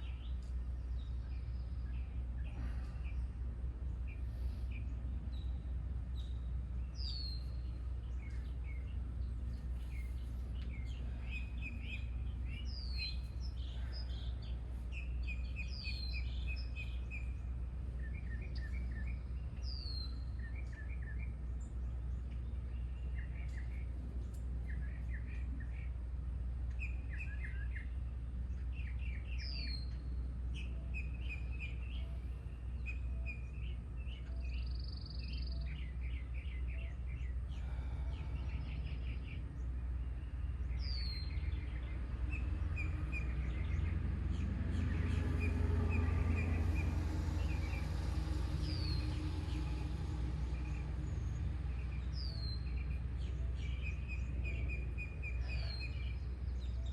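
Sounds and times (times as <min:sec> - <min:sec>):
steady low rumble: 0:00.0 - 0:56.9
wild birds singing: 0:00.0 - 0:56.9.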